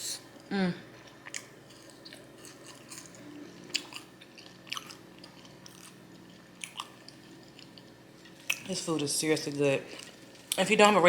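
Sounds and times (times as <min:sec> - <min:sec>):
faint steady hum: 0:00.0 - 0:11.0
person chewing food: 0:00.4 - 0:08.7, 0:09.9 - 0:10.6.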